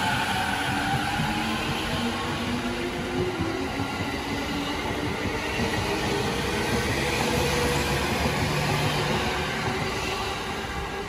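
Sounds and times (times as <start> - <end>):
train wheel and rail noise: 0.0 - 11.0.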